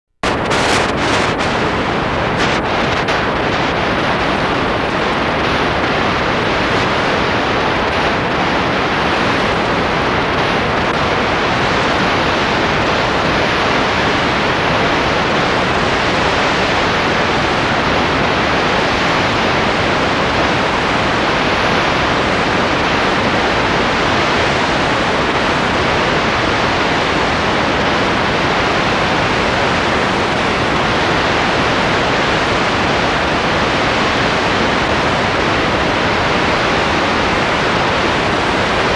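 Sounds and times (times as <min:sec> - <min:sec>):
loud steady hiss: 0:00.2 - 0:38.9.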